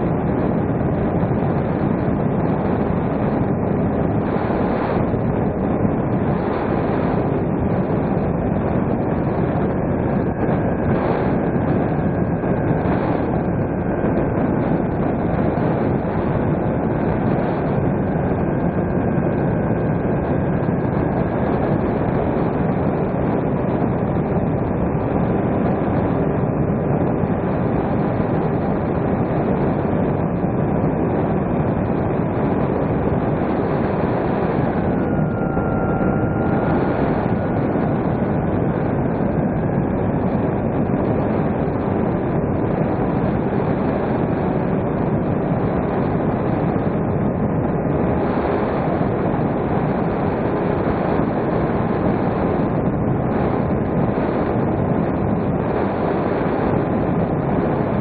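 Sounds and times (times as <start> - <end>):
wind rushing: 0.0 - 50.4
electric motor and propeller whine: 0.0 - 58.0.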